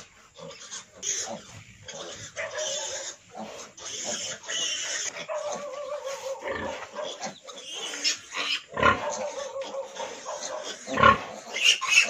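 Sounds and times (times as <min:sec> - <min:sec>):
piglets squealing: 0:00.4 - 0:12.0.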